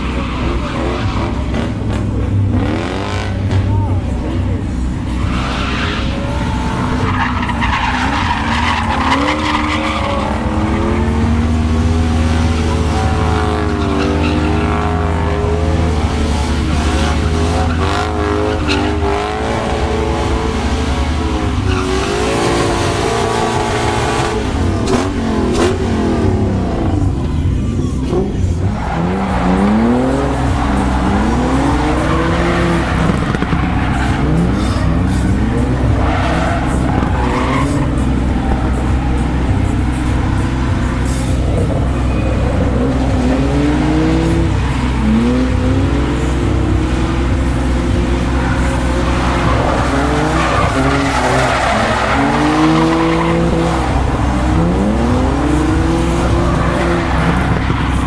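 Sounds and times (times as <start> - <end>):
car engines revving: 0.0 - 58.0
tyres squealing and skidding: 0.0 - 58.0.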